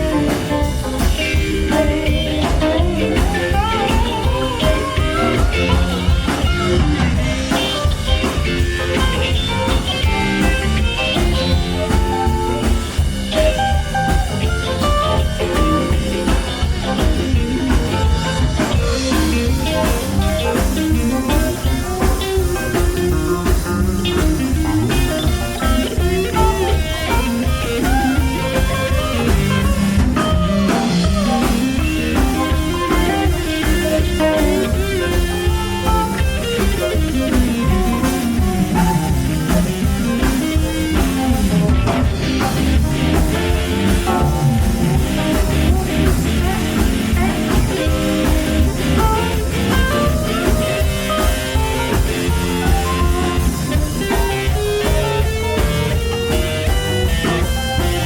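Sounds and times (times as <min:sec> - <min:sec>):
electric guitar: 0:00.0 - 0:58.0
live rock band playing: 0:00.0 - 0:58.0.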